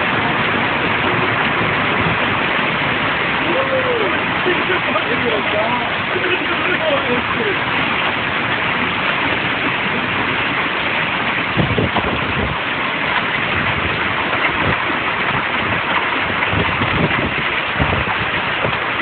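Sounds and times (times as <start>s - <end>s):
heavy rain: 0.0s - 19.0s
strong wind: 0.0s - 19.0s
wind buffeting microphone: 0.0s - 19.0s.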